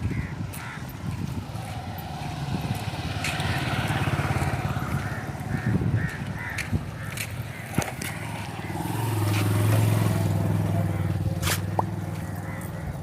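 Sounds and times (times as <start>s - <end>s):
vehicle engine passing by: 1.2s - 13.0s.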